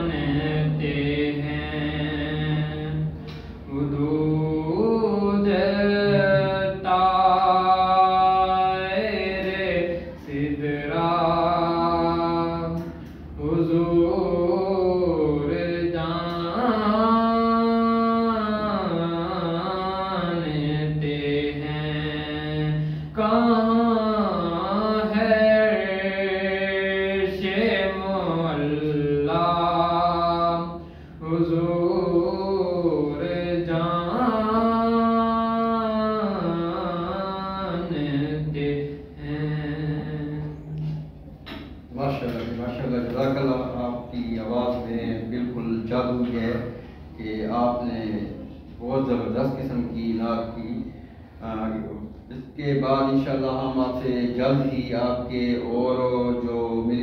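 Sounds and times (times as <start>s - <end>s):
man singing a lament: 0.0s - 41.1s, 42.0s - 57.0s.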